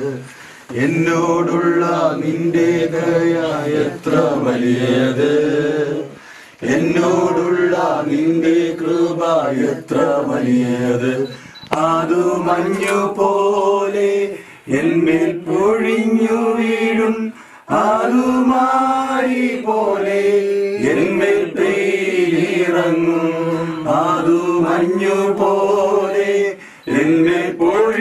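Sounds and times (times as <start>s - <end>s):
man's voice leading singing: 0.0s - 21.5s, 22.4s - 28.0s
group singing a hymn: 0.0s - 28.0s.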